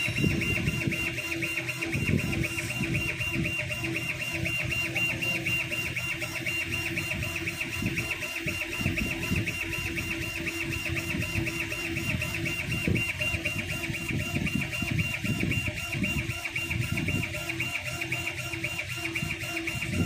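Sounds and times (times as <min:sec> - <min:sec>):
laser head motors running: 0:00.0 - 0:20.0
pulsing high tone: 0:00.0 - 0:20.0.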